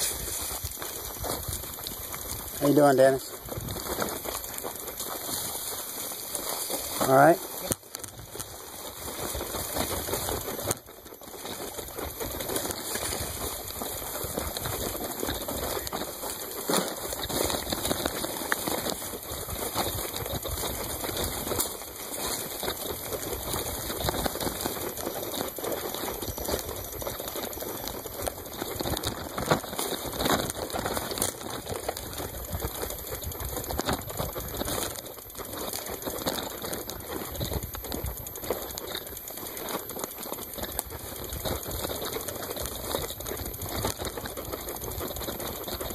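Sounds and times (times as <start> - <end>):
bike rattling: 0.0 - 45.9
tyres clattering on bumpy ground: 0.0 - 45.9.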